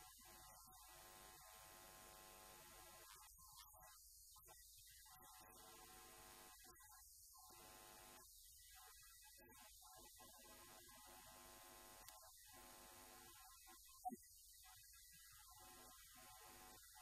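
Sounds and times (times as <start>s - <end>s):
faint mains hum: 0.0s - 17.0s.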